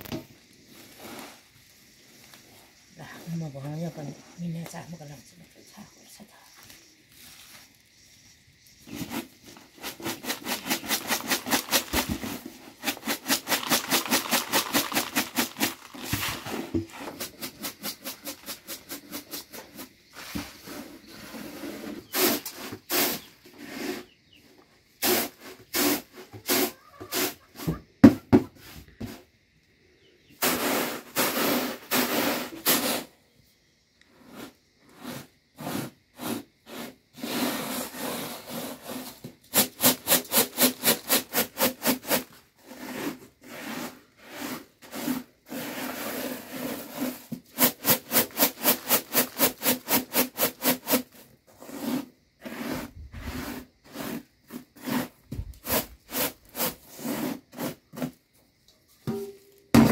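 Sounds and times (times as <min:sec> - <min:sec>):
grain swishing in bamboo tray: 0:00.6 - 0:04.8, 0:06.6 - 0:24.2, 0:30.4 - 0:33.1, 0:34.2 - 0:58.1.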